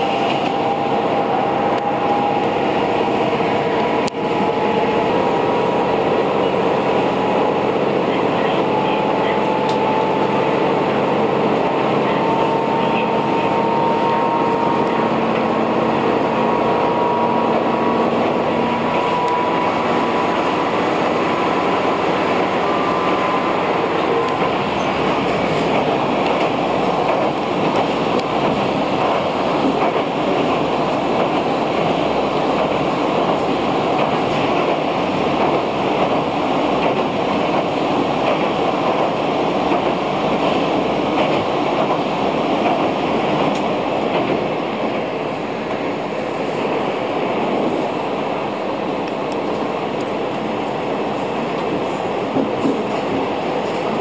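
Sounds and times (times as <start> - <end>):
railcar running noise: 0.0 - 54.0
train rumbling over bridge: 0.0 - 54.0.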